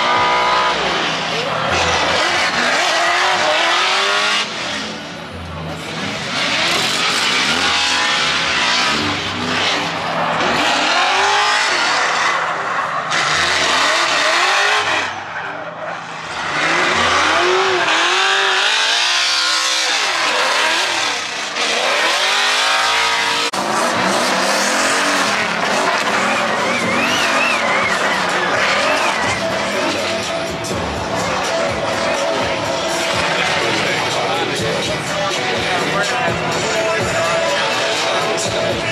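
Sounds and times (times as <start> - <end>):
car engines revving: 0.0 - 38.9
tires squealing: 0.0 - 38.9.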